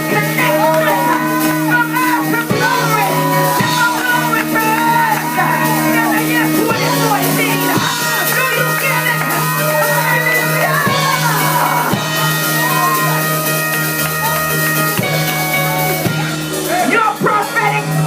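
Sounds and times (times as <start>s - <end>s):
sustained chords: 0.0s - 17.0s
people shouting and singing: 0.0s - 18.0s.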